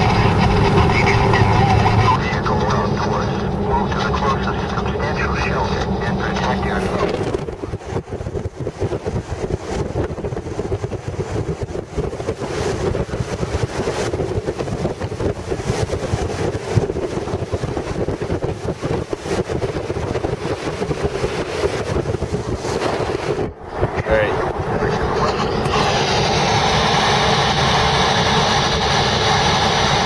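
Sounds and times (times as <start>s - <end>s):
car road and engine rumble: 0.0s - 30.0s
wind buffeting microphone: 0.0s - 30.0s.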